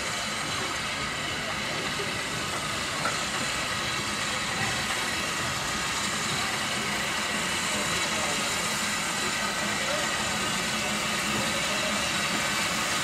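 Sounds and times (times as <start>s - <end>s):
faint voices: 0.0s - 13.0s
steam locomotive rumble and hiss: 0.0s - 13.0s.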